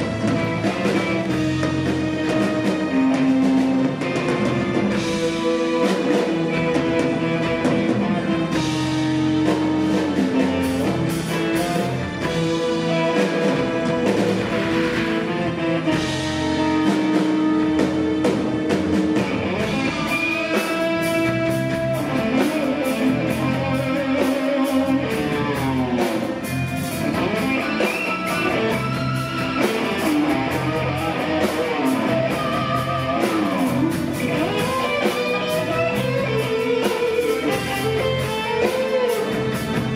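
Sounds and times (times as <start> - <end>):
bass guitar: 0.0 - 39.9
drums: 0.0 - 39.9
electric guitar: 0.0 - 39.9
keyboard: 0.0 - 39.9.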